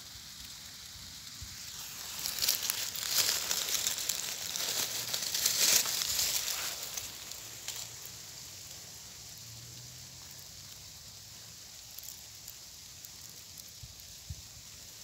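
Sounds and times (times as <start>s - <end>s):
dry leaves crackling against hand: 0.0s - 15.0s
faint hiss: 0.0s - 15.0s.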